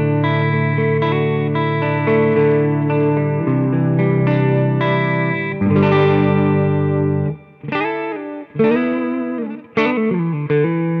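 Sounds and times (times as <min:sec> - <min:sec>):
electric guitar strumming chords: 0:00.0 - 0:11.0.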